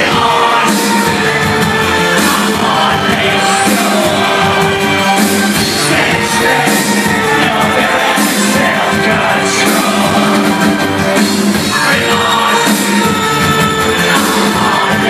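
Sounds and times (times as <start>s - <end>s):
live industrial band: 0.0s - 15.0s
sung and shouted vocals: 0.0s - 15.0s.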